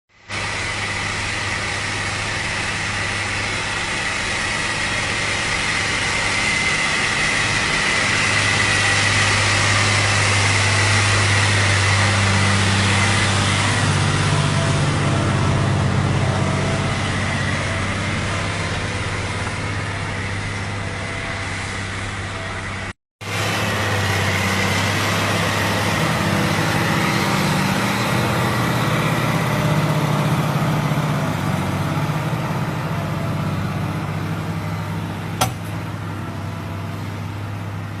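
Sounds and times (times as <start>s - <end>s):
tractor diesel engine running: 0.1s - 38.0s.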